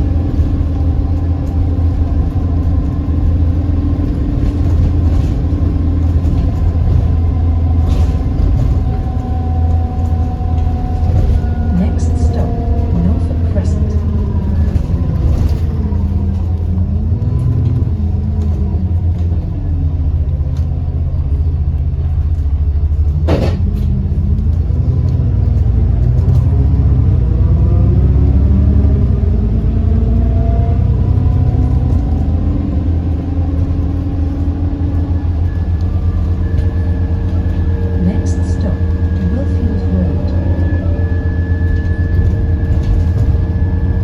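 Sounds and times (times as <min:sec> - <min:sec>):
bus engine rumbling: 0:00.0 - 0:44.0.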